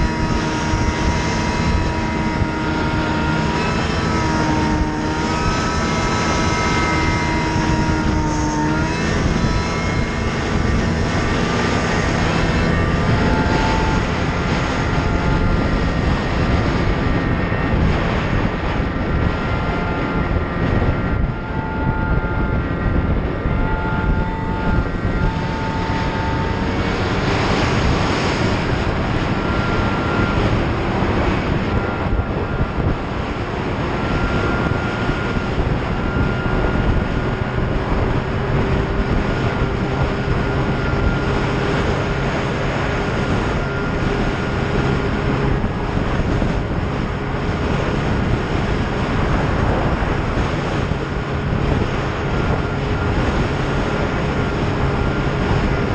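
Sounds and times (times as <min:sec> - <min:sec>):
snowmobile engine drone: 0:00.0 - 0:55.9
track and skis on snow: 0:00.0 - 0:55.9.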